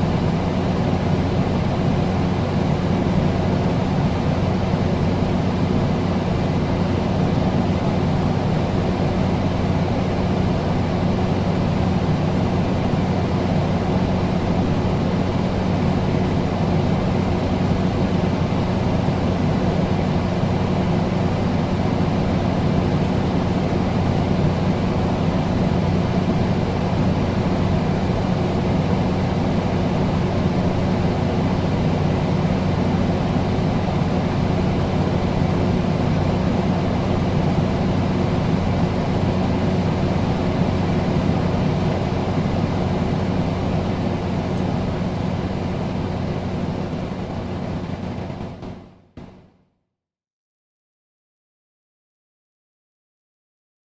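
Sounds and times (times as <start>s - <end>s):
air conditioner running: 0.0s - 49.4s.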